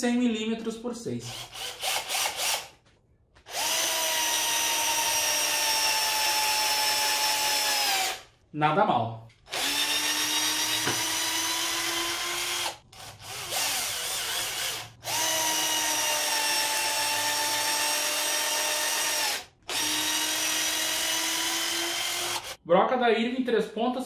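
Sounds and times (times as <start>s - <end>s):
cordless drill driving screws: 1.3s - 2.8s, 3.5s - 8.2s, 9.5s - 22.6s.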